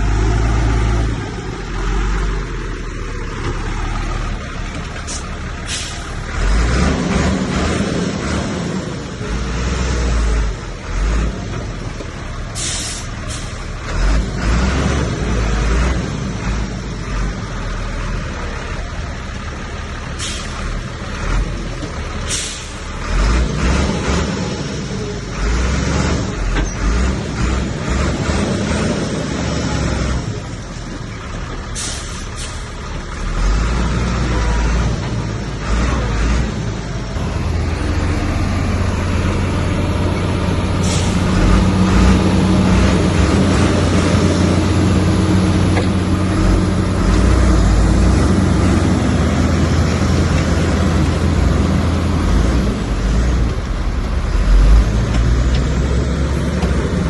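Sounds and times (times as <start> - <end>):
heavy diesel machinery engine drone: 0.0 - 57.0.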